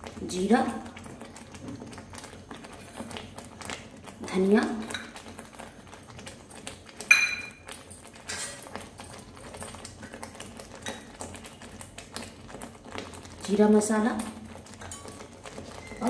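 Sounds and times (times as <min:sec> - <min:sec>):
thick paste frying and bubbling: 0:00.0 - 0:16.0.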